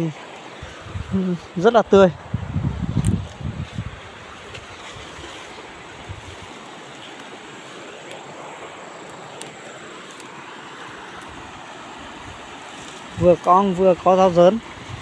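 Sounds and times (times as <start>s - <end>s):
fern fronds rustling: 0.0s - 15.0s
stream rushing: 0.0s - 15.0s.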